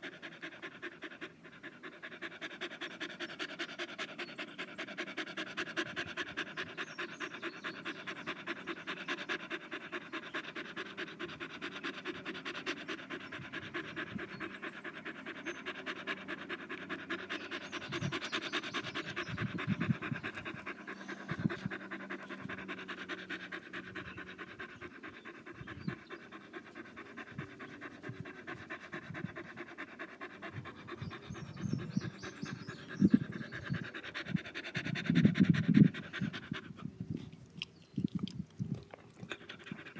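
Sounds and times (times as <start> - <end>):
dog panting: 0.0 - 39.9.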